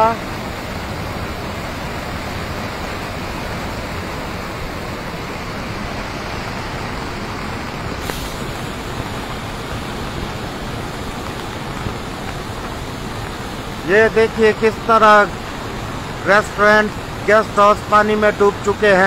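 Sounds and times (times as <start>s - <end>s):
heavy rain: 0.0s - 19.0s
river torrent rushing: 0.0s - 19.0s.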